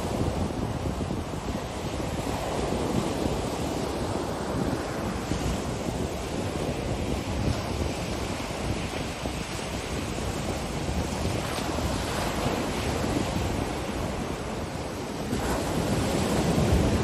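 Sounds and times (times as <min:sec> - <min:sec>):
ocean surf breaking on beach: 0:00.0 - 0:17.0
wind: 0:00.0 - 0:17.0.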